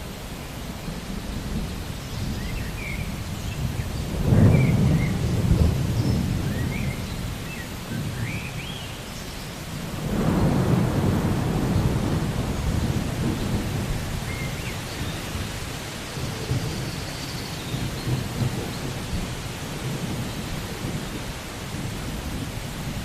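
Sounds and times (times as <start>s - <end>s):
steady rain hissing: 0.0s - 23.0s
thunder rumbling: 2.4s - 8.3s, 10.0s - 23.0s.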